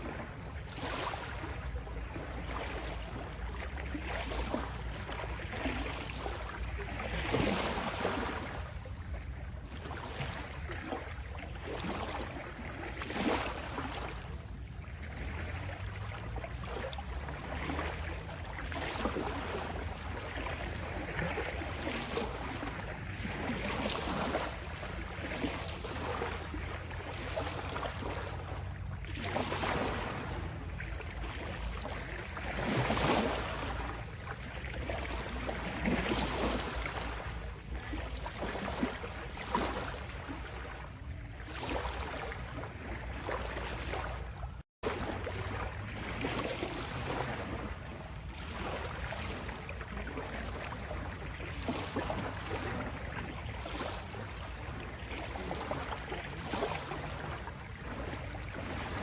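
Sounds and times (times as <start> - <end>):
small waves lapping at shore: 0.0 - 59.0.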